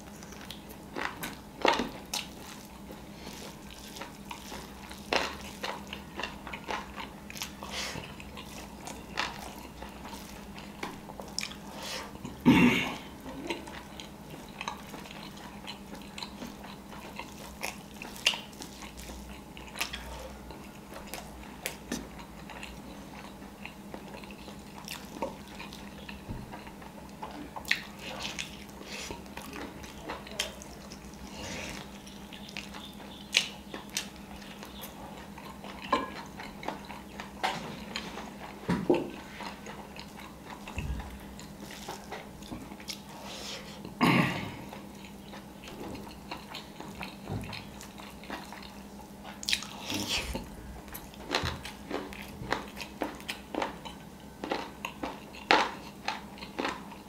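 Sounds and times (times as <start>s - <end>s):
faint steady hum: 0.0s - 57.0s
person chewing food: 0.0s - 57.0s.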